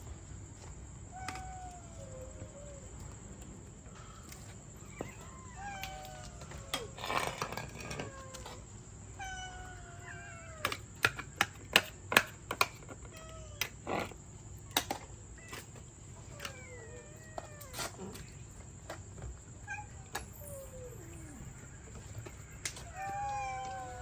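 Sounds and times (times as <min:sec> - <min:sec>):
cats meowing: 0:00.6 - 0:11.4, 0:12.8 - 0:24.0.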